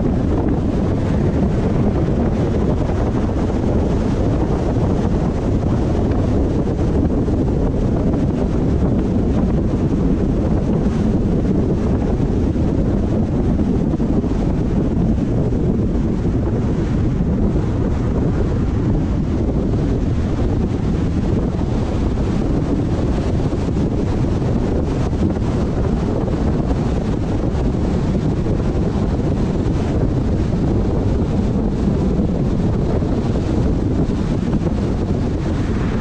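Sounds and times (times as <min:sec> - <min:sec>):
car road noise: 0:00.0 - 0:36.0
wind buffeting microphone: 0:00.0 - 0:36.0.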